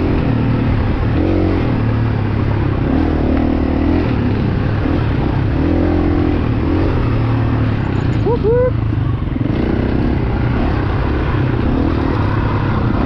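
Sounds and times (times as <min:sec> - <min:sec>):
dirt bike engine revving: 0:00.0 - 0:13.0
wind: 0:00.0 - 0:13.0.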